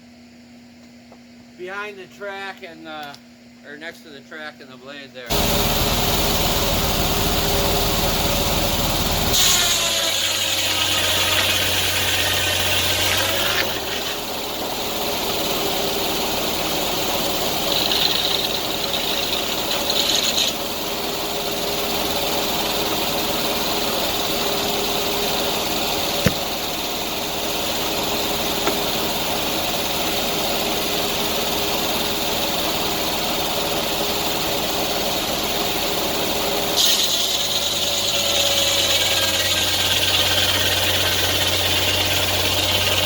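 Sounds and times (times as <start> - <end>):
sawmill engine running: 5.3 - 43.0.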